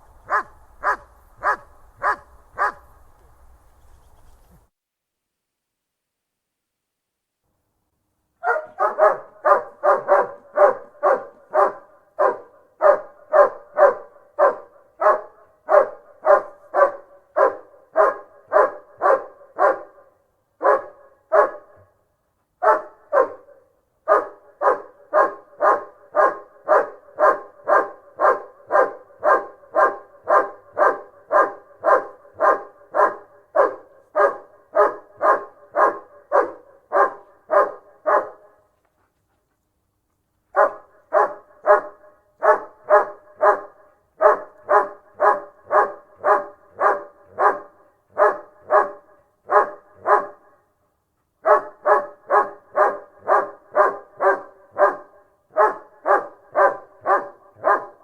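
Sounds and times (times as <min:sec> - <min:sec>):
dog barking: 0:00.2 - 0:03.0, 0:08.4 - 0:22.0, 0:22.6 - 0:38.7, 0:40.5 - 0:50.6, 0:51.4 - 0:58.0.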